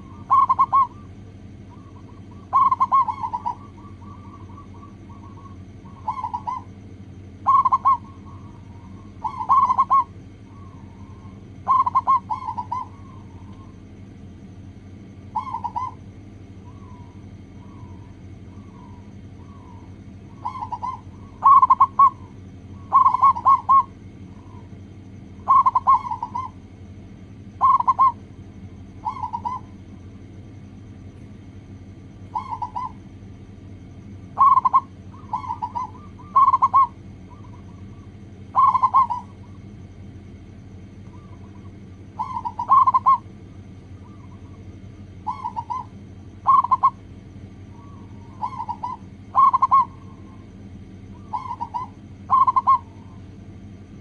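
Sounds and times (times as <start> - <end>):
doves cooing: 0.0 - 54.0
low hum: 0.0 - 54.0.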